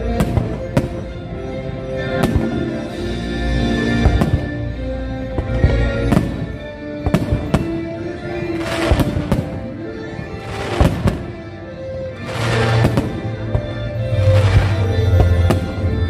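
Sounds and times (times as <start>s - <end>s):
music soundtrack: 0.0s - 16.0s.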